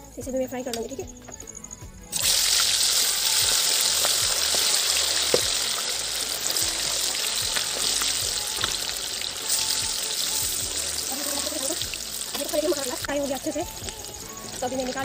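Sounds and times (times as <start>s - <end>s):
fish deep-frying in oil: 2.1s - 15.0s
oil popping and crackling: 2.1s - 15.0s.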